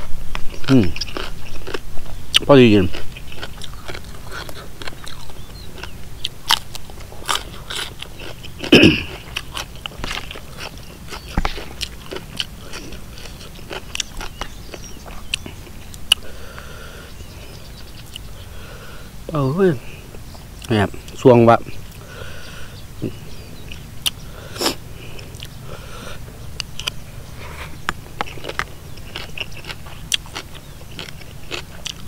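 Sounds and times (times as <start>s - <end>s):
chewing and crunching: 0.0s - 18.8s, 19.6s - 32.0s.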